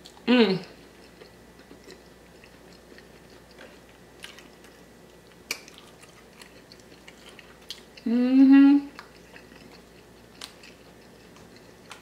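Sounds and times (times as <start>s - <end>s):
chewing food: 0.0s - 8.1s, 8.8s - 12.0s.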